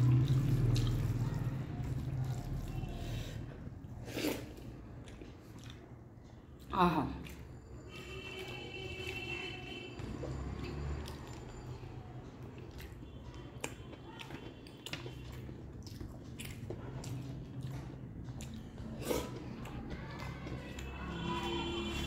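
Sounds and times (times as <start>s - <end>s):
person chewing wetly: 0.0s - 22.0s.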